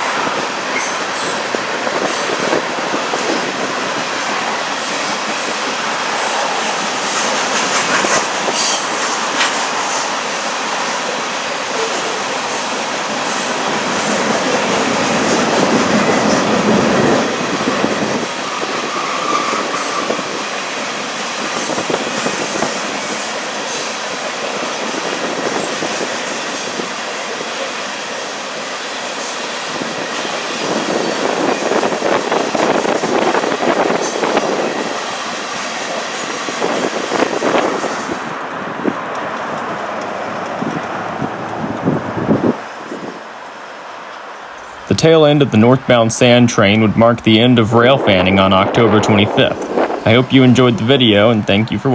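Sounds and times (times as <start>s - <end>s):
train wheels clattering on track: 0.0s - 43.2s.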